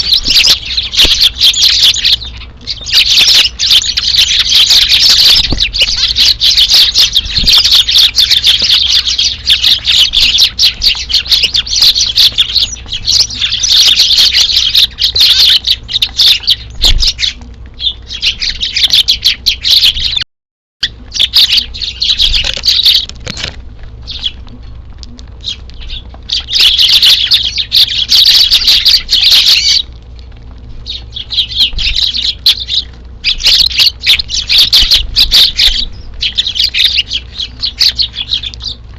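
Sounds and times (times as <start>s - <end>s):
sparrows chirping: 0.0s - 20.2s, 20.8s - 38.9s.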